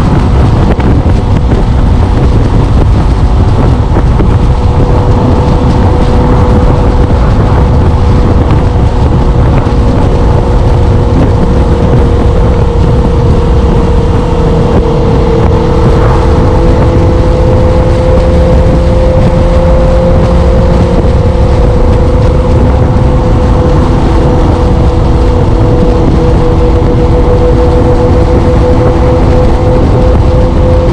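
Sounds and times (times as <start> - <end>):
motorcycle engine cruising: 0.0 - 30.9
wind rushing over microphone: 0.0 - 30.9.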